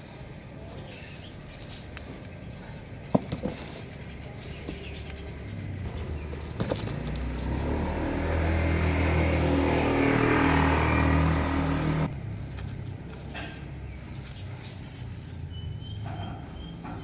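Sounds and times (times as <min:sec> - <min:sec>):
vehicle engine humming: 0:01.4 - 0:17.0.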